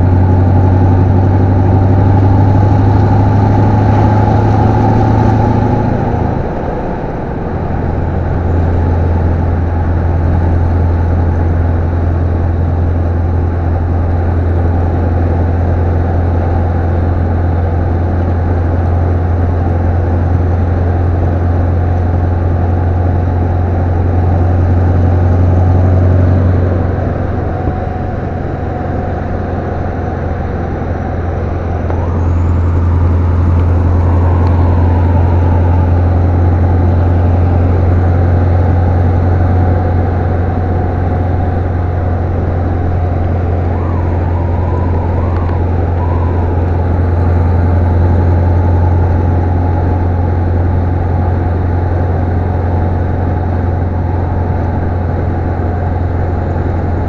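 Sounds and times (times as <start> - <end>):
diesel truck engine from cab: 0.0 - 57.0.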